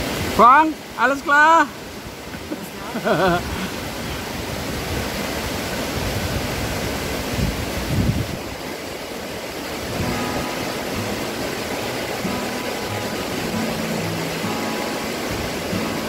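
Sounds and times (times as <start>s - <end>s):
waterfall roar: 0.0s - 16.0s.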